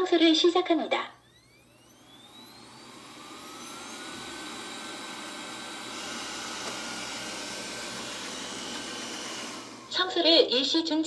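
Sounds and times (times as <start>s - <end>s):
robot vacuum fan whine: 0.0s - 11.0s.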